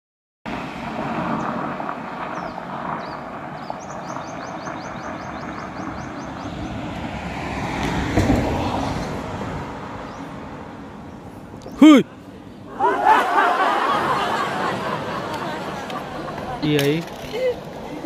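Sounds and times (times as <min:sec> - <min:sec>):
road traffic noise: 0:00.5 - 0:18.0
vehicle passing: 0:00.5 - 0:18.0.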